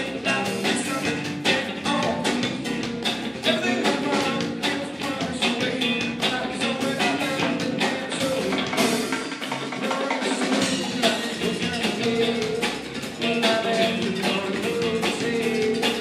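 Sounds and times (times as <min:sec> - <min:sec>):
person singing into microphone: 0:00.0 - 0:02.7, 0:03.4 - 0:08.9, 0:09.8 - 0:16.0
live rock band playing: 0:00.0 - 0:16.0.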